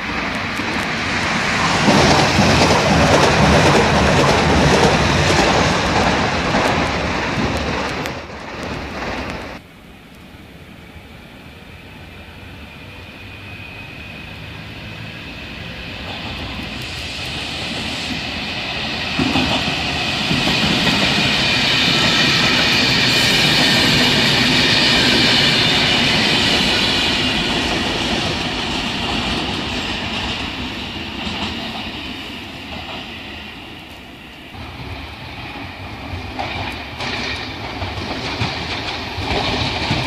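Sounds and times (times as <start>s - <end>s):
wheels rumbling on rails: 0.0s - 11.1s, 11.8s - 40.0s
train passing: 0.0s - 40.0s.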